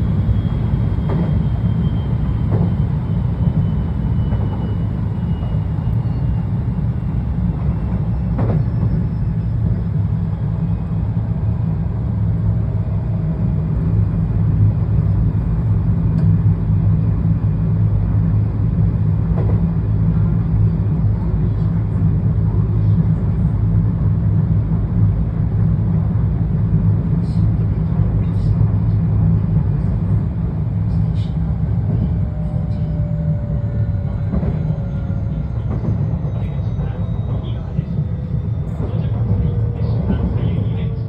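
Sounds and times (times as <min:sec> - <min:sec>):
electric train rumbling: 0:00.0 - 0:41.0.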